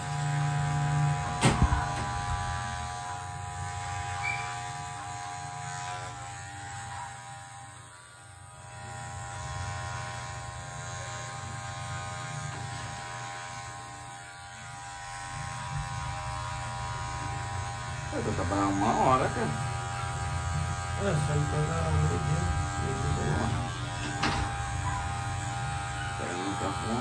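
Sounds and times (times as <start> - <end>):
electric hair clipper buzzing: 0.0 - 27.0.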